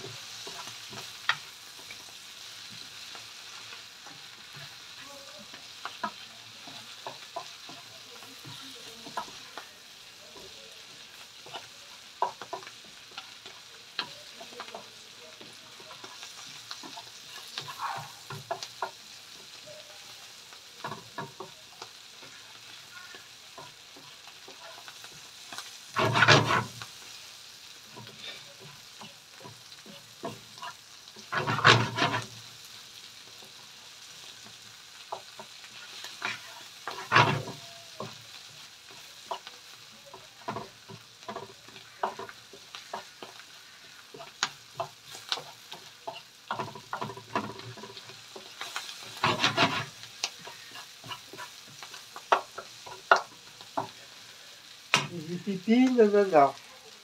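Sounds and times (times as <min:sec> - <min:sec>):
wooden spoon tapping and scraping pan: 0:00.0 - 0:55.2
spinach sizzling in a frying pan: 0:00.0 - 0:57.0.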